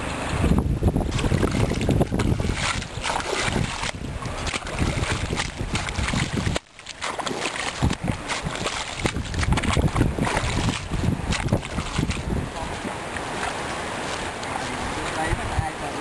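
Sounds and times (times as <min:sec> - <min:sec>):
wind buffeting microphone: 0:00.0 - 0:16.0
mud squelches and splashes: 0:01.1 - 0:15.4.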